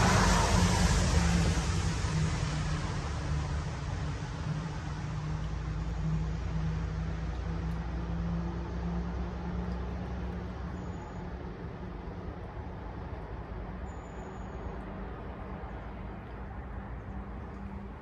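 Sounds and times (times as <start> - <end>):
passing vehicle rumble: 0.0 - 18.0.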